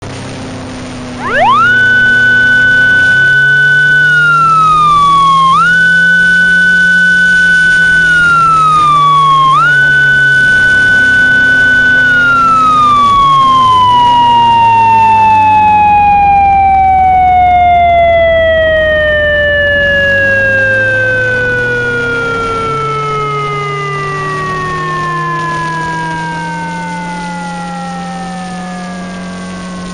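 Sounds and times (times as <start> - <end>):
low humming tone: 0.1 - 29.9
synthesized police siren: 1.1 - 29.9.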